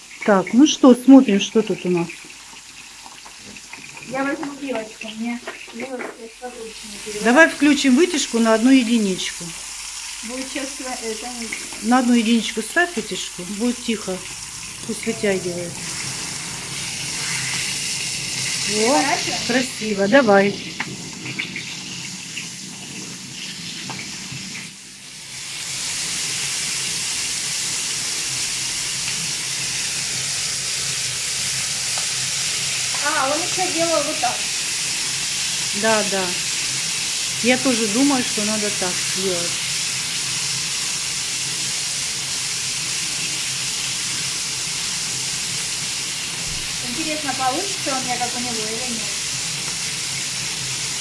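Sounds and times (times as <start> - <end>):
meat sizzling in oil: 0.0 - 51.0
range hood fan hum: 3.6 - 51.0.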